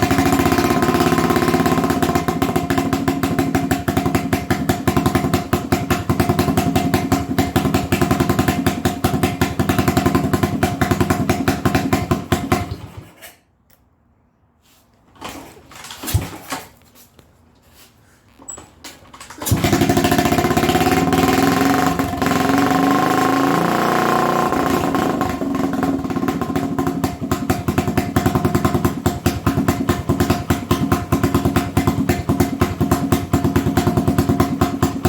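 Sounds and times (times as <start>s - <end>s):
motorcycle engine idling: 0.0s - 13.0s, 19.4s - 35.0s.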